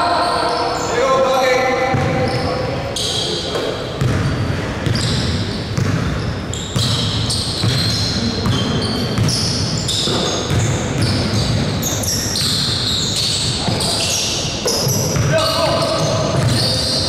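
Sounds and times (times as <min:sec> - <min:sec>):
basketball bouncing on court: 0:01.8 - 0:02.5, 0:04.0 - 0:17.0
shoe squeaks: 0:02.0 - 0:17.0.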